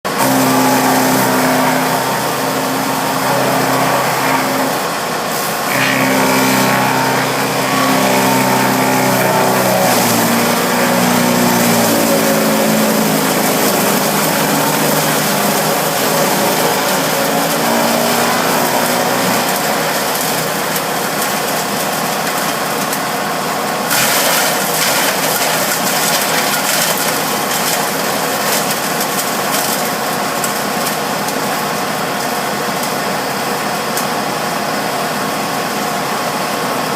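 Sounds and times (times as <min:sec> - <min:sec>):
wood chipper engine running: 0:00.0 - 0:36.9.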